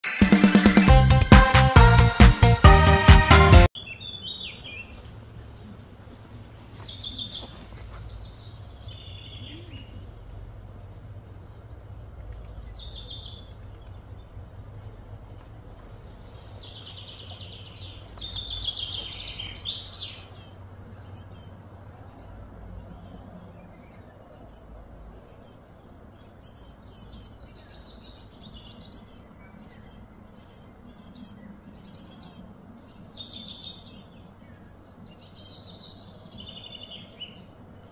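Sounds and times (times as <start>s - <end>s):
birds chirping and singing: 2.9s - 37.9s.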